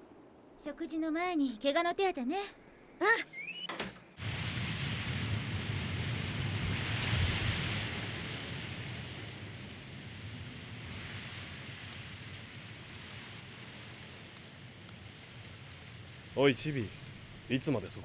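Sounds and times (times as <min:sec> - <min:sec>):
steady rain falling: 0:03.4 - 0:18.0.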